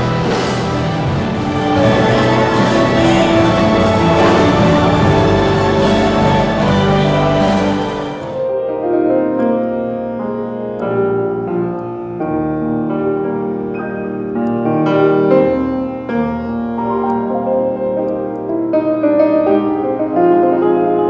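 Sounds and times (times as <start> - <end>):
slow piano chords with melody: 0.0 - 21.0.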